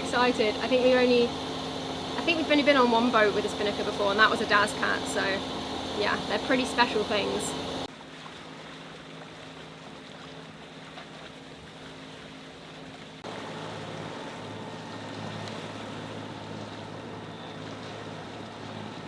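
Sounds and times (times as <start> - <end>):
boat engine humming: 0.0 - 19.0
water noise: 0.0 - 19.0
wind: 0.0 - 19.0.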